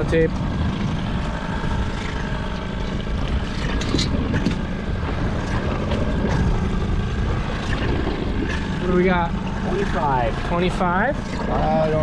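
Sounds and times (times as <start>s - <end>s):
boat motor humming: 0.0s - 12.0s
wind and water rumble: 0.0s - 12.0s.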